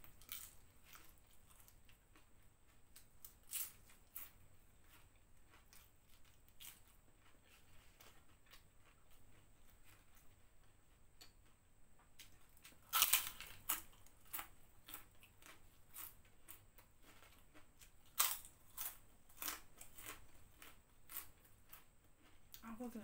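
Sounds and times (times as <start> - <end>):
crackers crunching: 0.0 - 10.7, 12.2 - 22.6.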